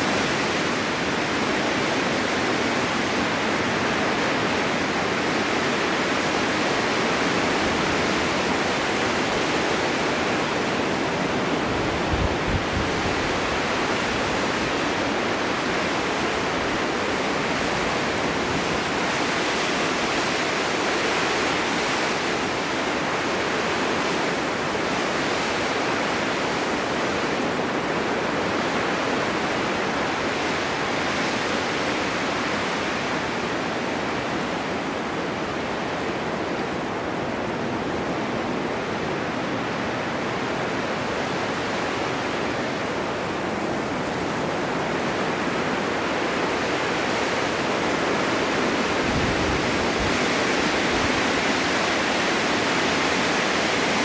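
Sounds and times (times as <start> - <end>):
wind buffeting microphone: 0.0 - 20.3, 27.0 - 54.0
snowstorm wind blowing: 0.0 - 54.0.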